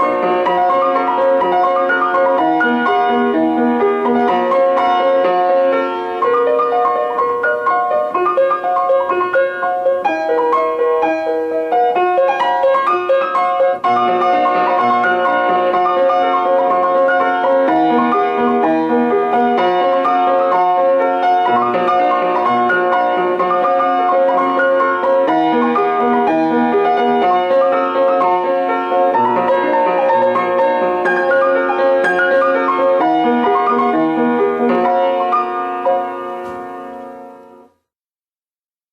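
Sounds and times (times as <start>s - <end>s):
piano music: 0.0s - 37.9s.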